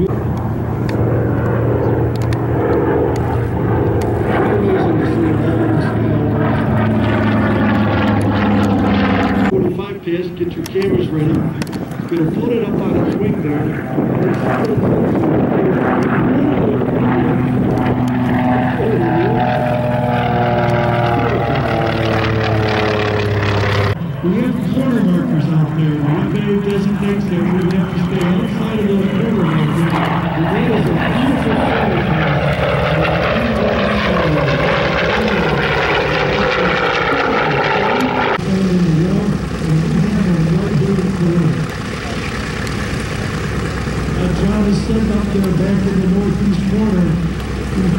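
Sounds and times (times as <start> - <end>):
propeller plane droning past: 0.0 - 47.9.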